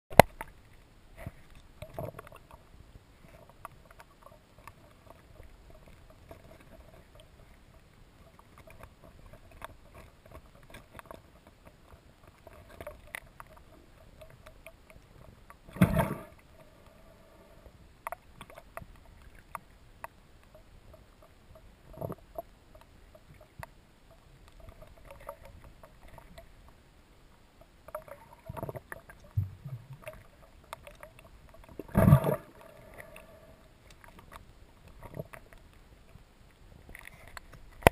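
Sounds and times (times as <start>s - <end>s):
faint underwater hum: 0.1s - 37.9s
small clicks and crackles: 0.1s - 37.9s.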